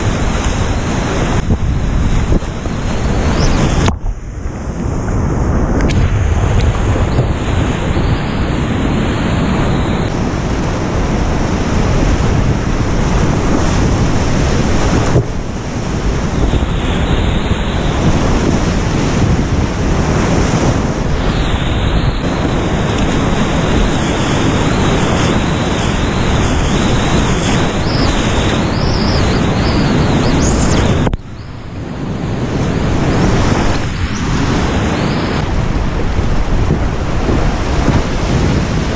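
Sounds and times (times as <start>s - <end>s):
whitewater rapids roaring: 6.0s - 38.9s.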